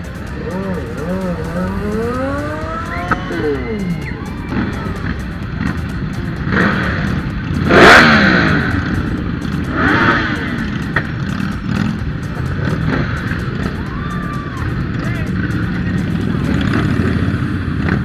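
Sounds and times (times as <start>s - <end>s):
motorbike engines revving: 0.0s - 18.0s.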